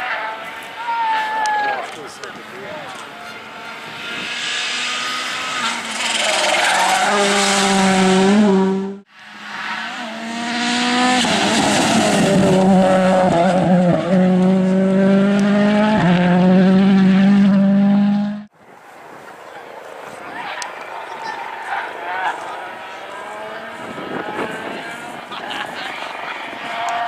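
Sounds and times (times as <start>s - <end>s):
rally car engines passing at speed: 2.1s - 18.5s, 19.5s - 27.0s.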